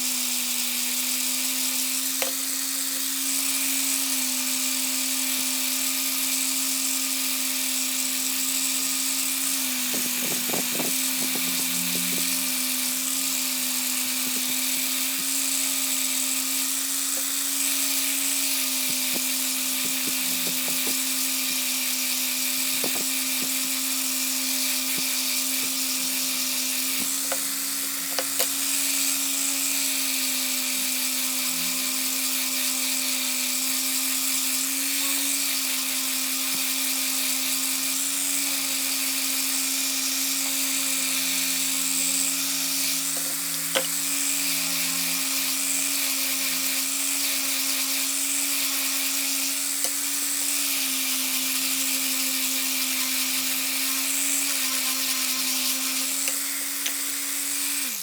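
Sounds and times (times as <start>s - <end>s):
power tool whining: 0.0s - 58.0s.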